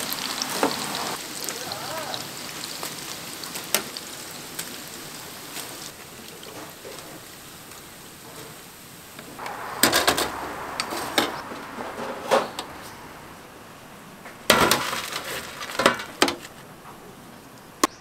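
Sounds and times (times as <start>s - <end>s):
steady hiss: 0.0s - 17.8s.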